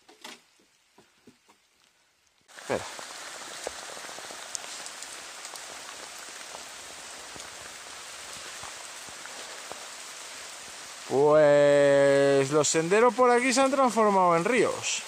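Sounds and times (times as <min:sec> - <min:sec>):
heavy rain on foliage: 0:00.2 - 0:15.0
raindrops ticking close by: 0:00.4 - 0:15.0.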